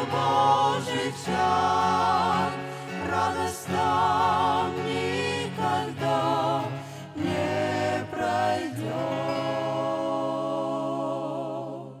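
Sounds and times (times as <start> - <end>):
musical accompaniment: 0.0 - 11.5
choir singing gospel in harmony: 0.0 - 12.0.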